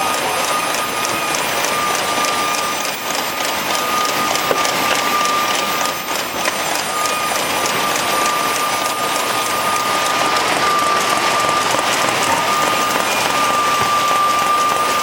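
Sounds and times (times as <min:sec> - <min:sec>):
machine high whine: 0:00.0 - 0:15.0
plastic containers clattering on conveyors: 0:01.9 - 0:15.0.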